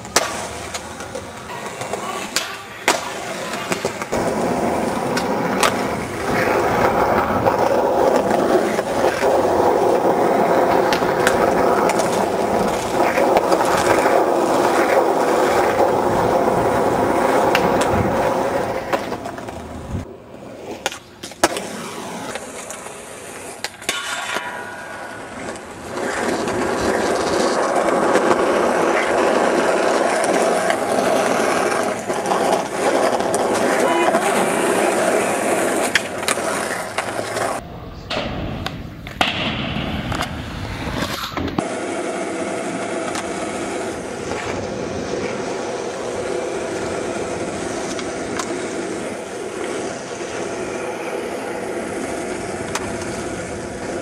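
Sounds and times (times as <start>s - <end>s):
skateboard popping and landing clacks: 0.0s - 54.0s
skateboard wheels rolling on pavement: 0.0s - 54.0s.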